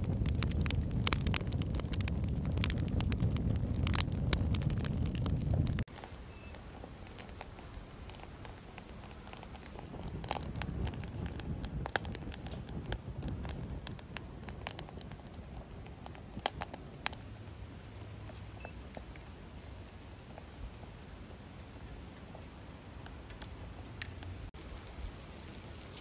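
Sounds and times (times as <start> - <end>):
fire crackling and popping: 0.0 - 17.2, 21.8 - 26.0
low rumble of flames: 0.0 - 26.0.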